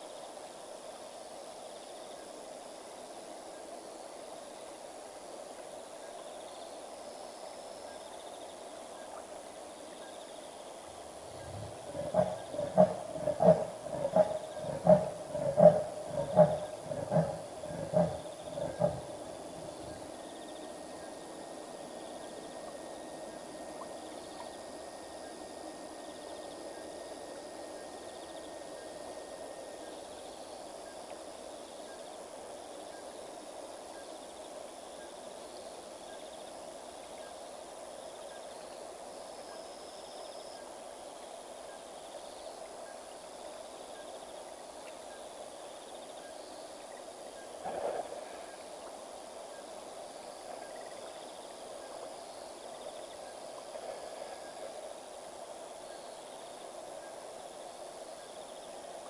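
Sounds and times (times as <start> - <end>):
hiss of insects: 0.0 - 59.0
repeating insect chirp: 6.0 - 59.0.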